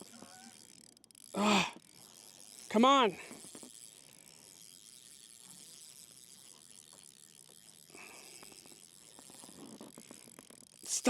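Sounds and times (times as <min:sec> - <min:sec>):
fishing reel clicking: 0:00.0 - 0:11.0.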